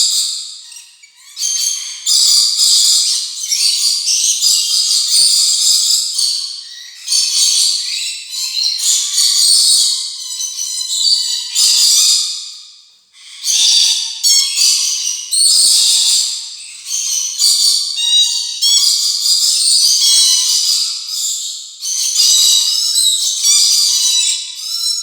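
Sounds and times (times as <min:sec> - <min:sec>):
lorikeets chattering and screeching: 0:00.0 - 0:12.3, 0:13.2 - 0:25.0.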